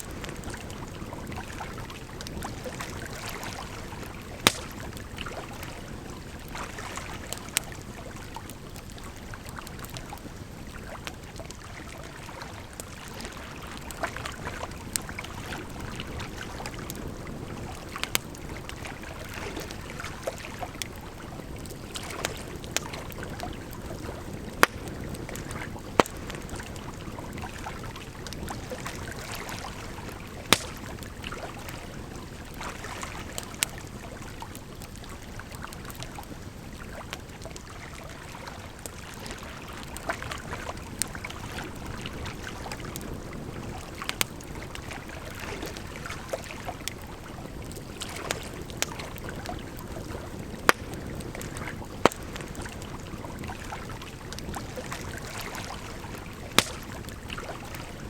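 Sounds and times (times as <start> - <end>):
campfire crackling and popping: 0.0 - 58.0
rushing water: 0.0 - 58.0.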